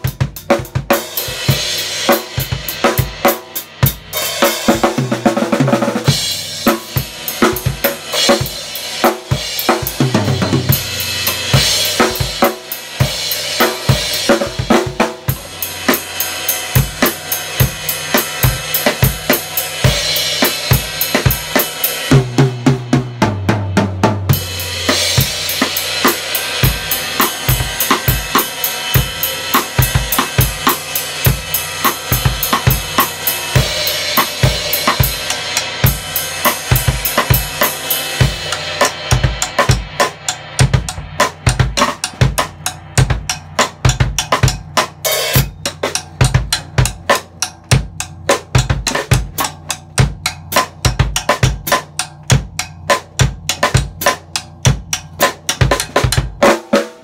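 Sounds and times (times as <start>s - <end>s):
drum kit played with sticks: 0.0s - 57.0s.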